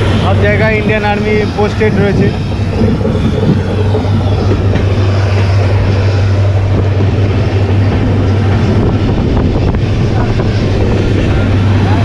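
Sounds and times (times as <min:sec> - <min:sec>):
train running at speed: 0:00.0 - 0:12.0
wind rushing over microphone: 0:00.0 - 0:12.0.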